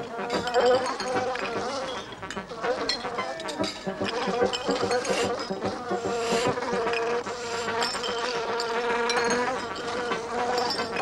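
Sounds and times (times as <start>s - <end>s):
insect-like buzzing drone: 0.0s - 11.0s.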